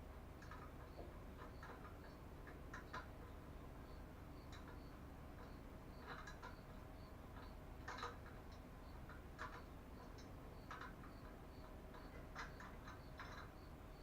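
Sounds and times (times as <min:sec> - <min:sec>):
faint even ticking: 0:00.0 - 0:14.0
clicking and rattling of hand work: 0:00.4 - 0:03.4, 0:04.4 - 0:14.0.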